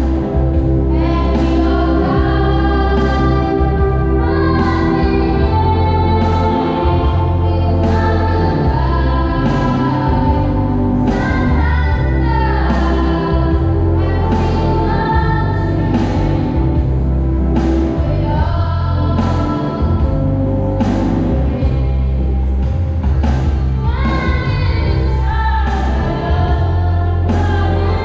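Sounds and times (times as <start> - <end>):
voices singing through microphones: 0.0 - 28.0.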